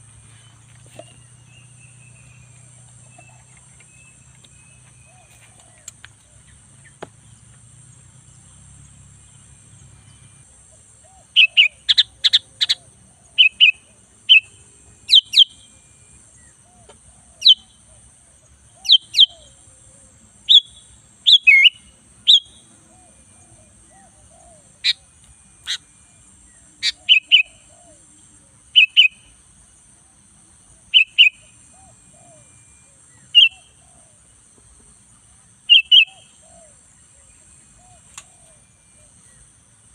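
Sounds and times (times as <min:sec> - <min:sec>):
bird chirps: 0:00.0 - 0:18.0, 0:18.7 - 0:19.8, 0:20.5 - 0:29.4, 0:30.8 - 0:34.8, 0:35.6 - 0:39.5.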